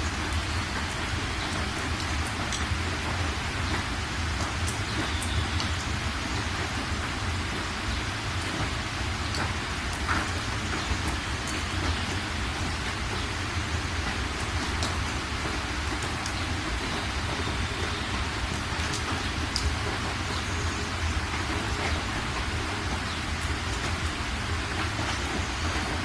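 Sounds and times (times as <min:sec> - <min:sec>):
rain falling on surfaces: 0:00.0 - 0:26.0.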